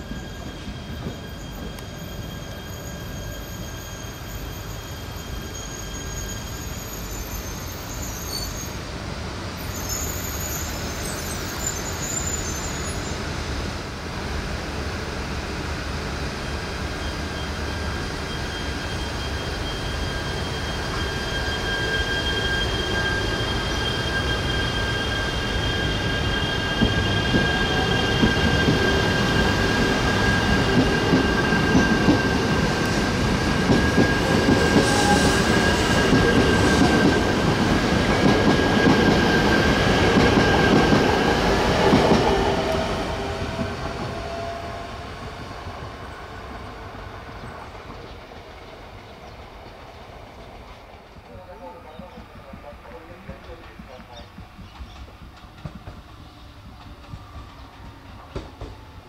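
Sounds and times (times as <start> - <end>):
train passing with high whine: 0.0 - 59.0.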